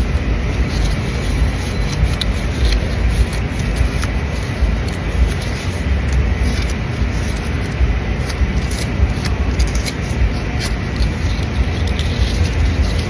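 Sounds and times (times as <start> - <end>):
small crackles: 0.1 - 13.0.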